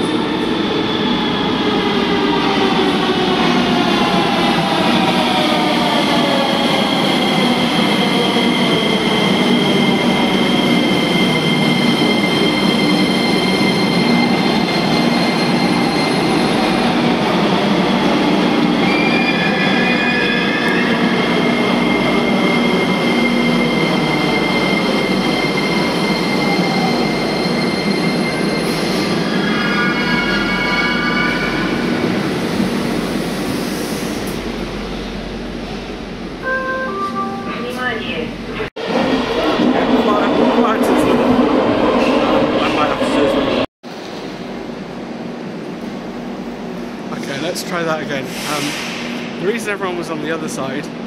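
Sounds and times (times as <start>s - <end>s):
metro trains rumbling: 0.0s - 51.0s.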